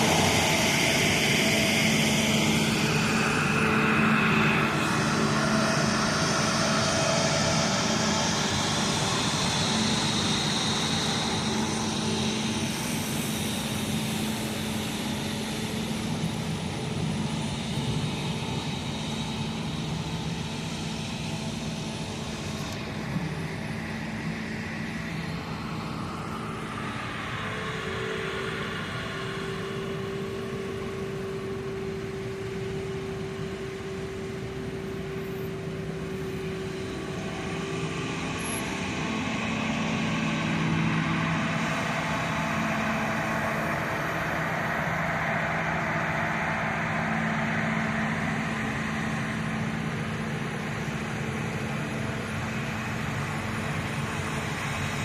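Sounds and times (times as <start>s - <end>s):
diesel harvesting machinery running: 0.0s - 55.0s
steady whine: 0.0s - 55.0s.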